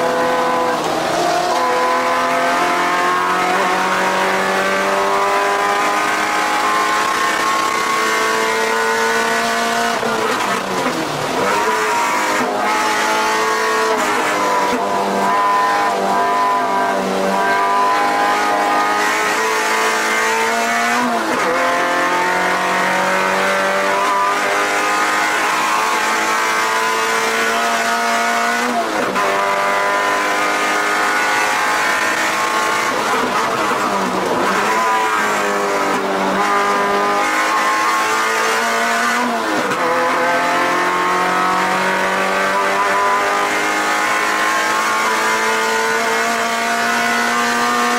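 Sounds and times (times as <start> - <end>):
car engine revving under load: 0.0 - 47.9.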